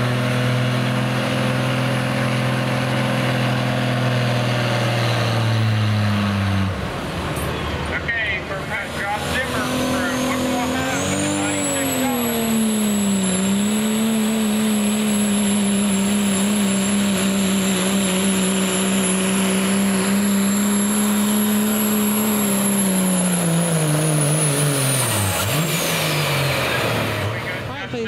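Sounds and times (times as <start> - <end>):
diesel engine at high revs: 0.0 - 28.0.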